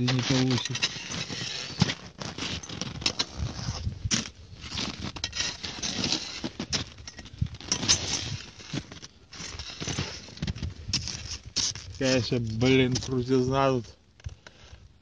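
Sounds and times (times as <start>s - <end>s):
ice axe and boots crunching snow: 0.0s - 13.8s.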